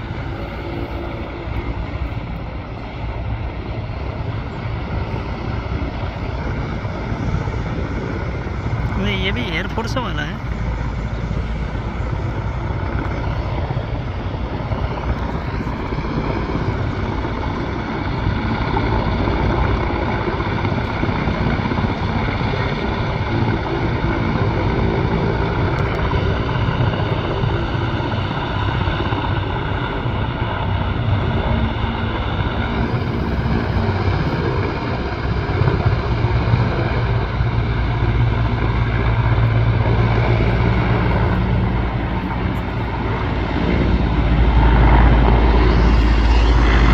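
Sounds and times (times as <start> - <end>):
helicopter rotor drone: 0.0 - 46.9
helicopter turbine whine: 0.0 - 46.9.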